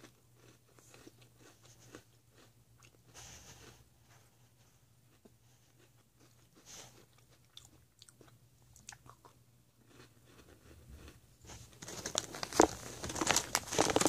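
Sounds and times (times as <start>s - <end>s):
biscuit crunching: 0.0s - 3.8s, 5.1s - 14.0s.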